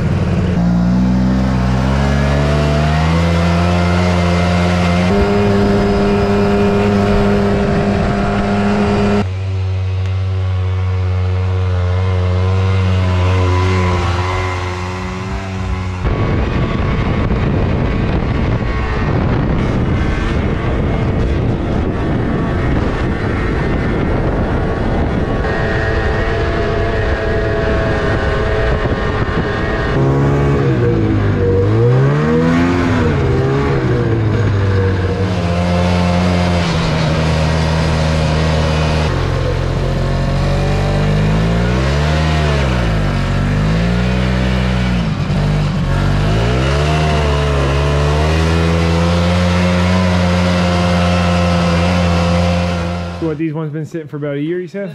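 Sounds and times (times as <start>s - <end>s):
snowmobile engines running: 0.0s - 54.9s
snowmobile track noise: 0.0s - 54.9s.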